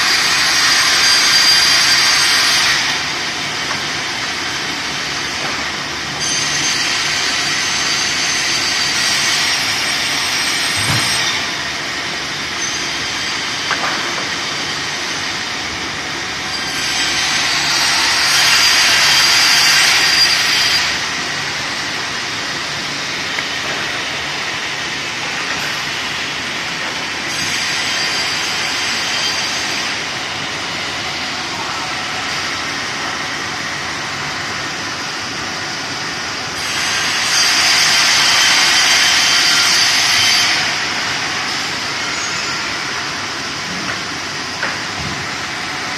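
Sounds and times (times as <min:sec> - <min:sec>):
band saws running: 0:00.0 - 0:45.9.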